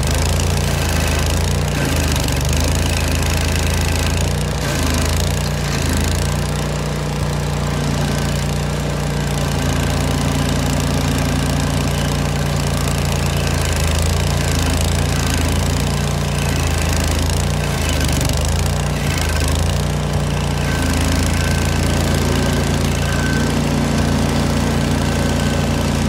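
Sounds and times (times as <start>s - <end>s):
stump grinder engine running: 0.0s - 26.0s.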